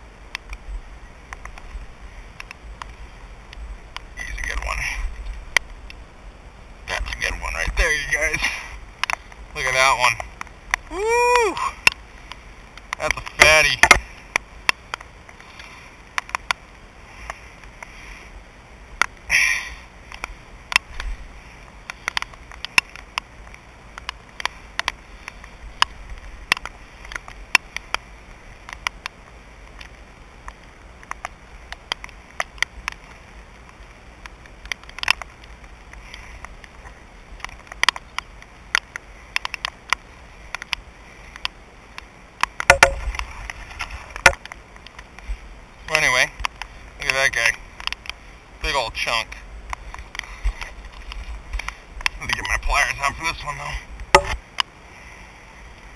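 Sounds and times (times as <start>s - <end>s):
raindrops ticking close by: 0.0s - 55.9s
steady rain: 0.0s - 55.9s.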